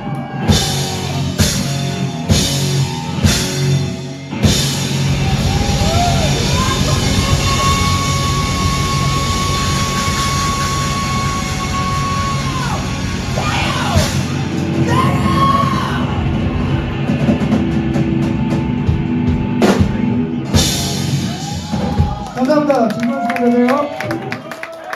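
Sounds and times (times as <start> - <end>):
live heavy rock band: 0.0 - 22.7
drum and cymbal hits: 0.2 - 22.6.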